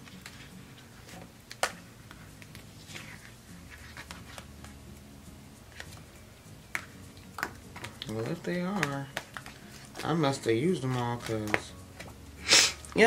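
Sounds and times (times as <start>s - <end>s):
paper pages rustling: 0.0s - 4.8s, 5.7s - 6.1s, 6.7s - 12.1s.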